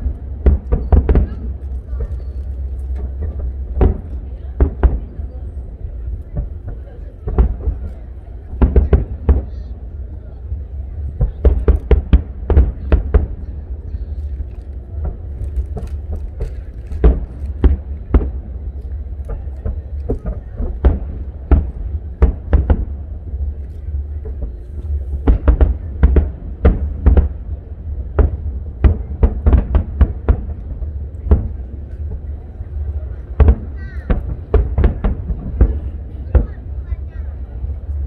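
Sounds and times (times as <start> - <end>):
firework shells booming: 0.0 - 9.8, 11.0 - 38.0
deep rumble: 0.0 - 38.0.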